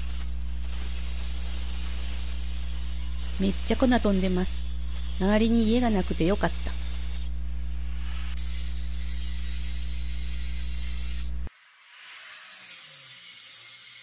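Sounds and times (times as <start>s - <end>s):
angle grinder running: 0.0s - 14.0s
rough scraping hiss: 0.0s - 14.0s.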